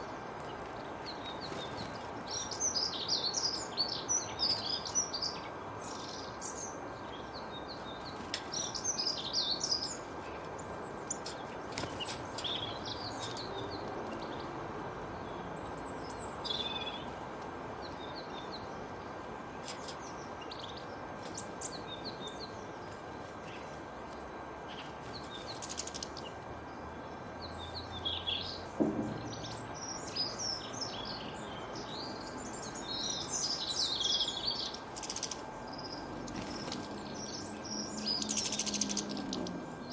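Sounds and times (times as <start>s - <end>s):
outdoor background hiss: 0.0s - 39.9s
small birds chirping and singing: 0.0s - 39.9s.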